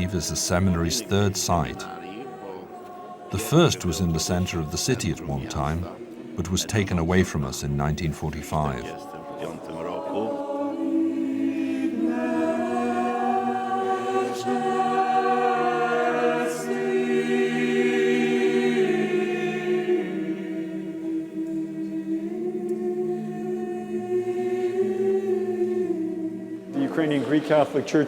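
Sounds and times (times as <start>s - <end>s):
choir singing a slow chant: 0.0s - 28.0s.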